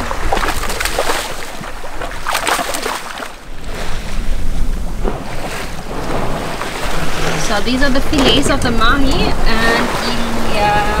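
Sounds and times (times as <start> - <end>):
sea washing around boat: 0.0 - 11.0
sharp water splashes: 0.0 - 11.0
wind: 0.0 - 11.0.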